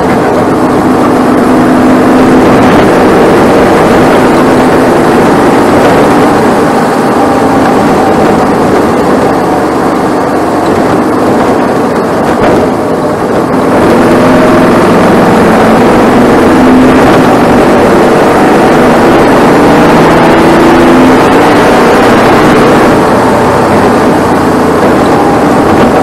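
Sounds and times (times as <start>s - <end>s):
race car engine droning: 0.0s - 26.0s.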